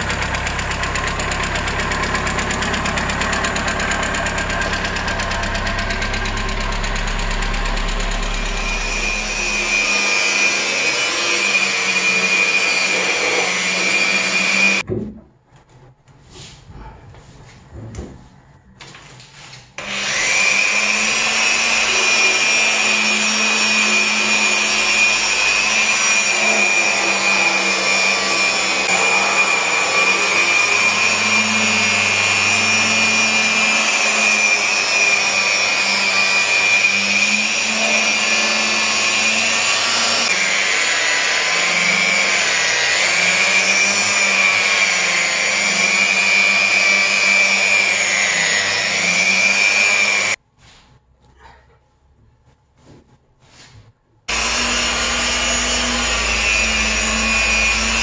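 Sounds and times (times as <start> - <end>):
polisher motor whine: 0.0 - 14.8, 19.8 - 50.4, 54.3 - 58.0.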